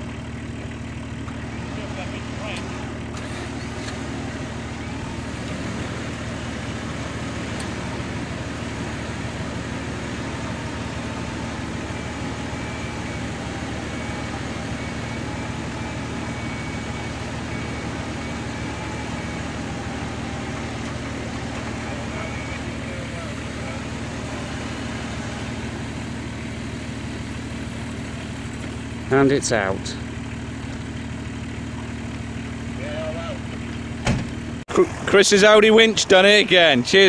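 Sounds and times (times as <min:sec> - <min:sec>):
engine running: 0:00.0 - 0:37.0
winch motor whine: 0:00.0 - 0:37.0.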